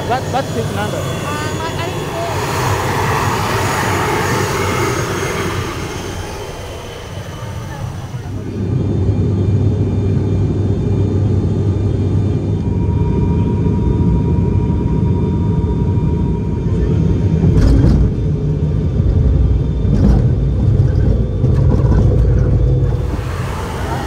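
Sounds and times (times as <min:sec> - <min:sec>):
propeller engine drone: 0:00.0 - 0:24.0.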